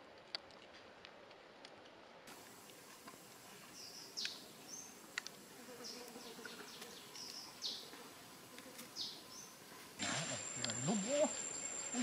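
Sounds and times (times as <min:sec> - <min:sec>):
forest ambience: 0:00.0 - 0:12.0.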